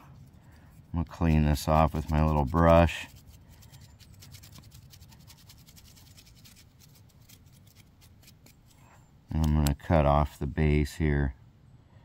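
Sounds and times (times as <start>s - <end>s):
brush scrubbing mushroom: 0.0s - 10.4s.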